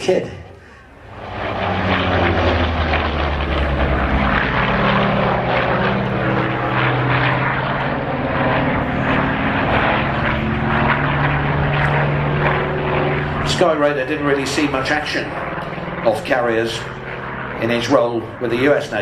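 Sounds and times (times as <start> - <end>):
radial piston engine droning: 0.6 - 19.0.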